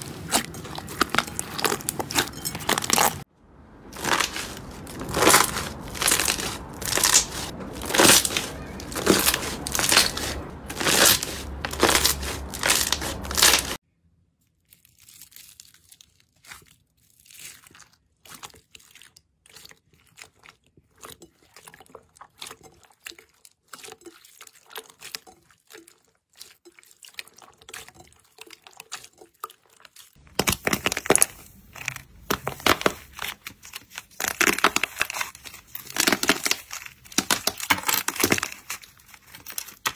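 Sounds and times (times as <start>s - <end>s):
clay crust cracking and crunching: 0.0s - 13.8s, 14.5s - 21.2s, 21.8s - 39.9s
crackly slime squishes: 0.0s - 13.8s, 14.4s - 39.9s.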